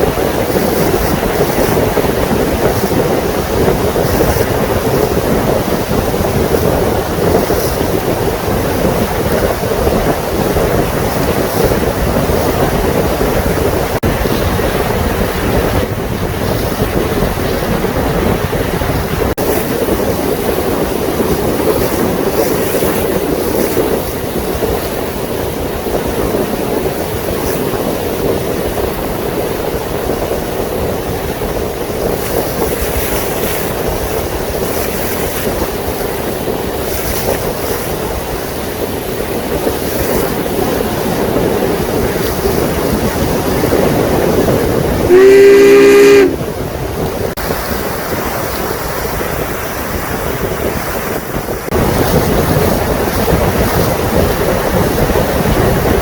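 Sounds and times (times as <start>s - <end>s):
boat engine rumble: 0.0s - 56.0s
water rushing along hull: 0.0s - 56.0s
wind buffeting microphone: 0.0s - 56.0s.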